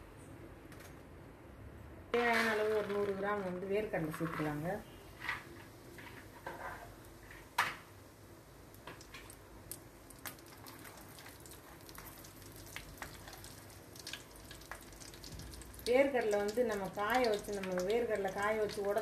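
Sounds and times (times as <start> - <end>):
peanuts deep-frying in oil: 2.2 - 19.0.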